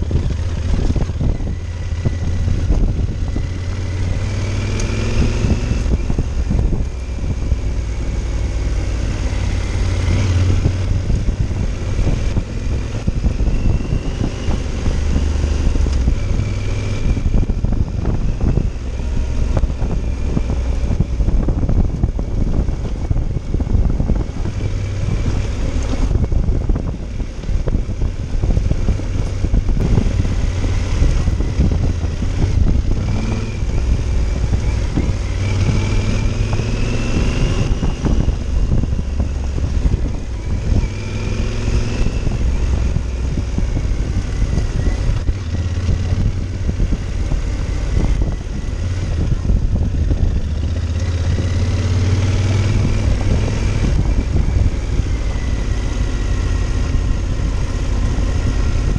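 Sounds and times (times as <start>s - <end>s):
motorcycle engine running: 0.0s - 58.9s
wind buffeting microphone: 0.0s - 58.9s.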